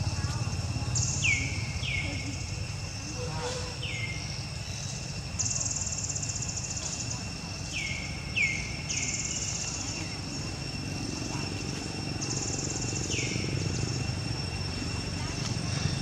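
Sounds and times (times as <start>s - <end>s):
insects buzzing in pulsing bursts: 0.0s - 16.0s
low steady rumble: 0.0s - 16.0s
steady high drone: 0.0s - 16.0s.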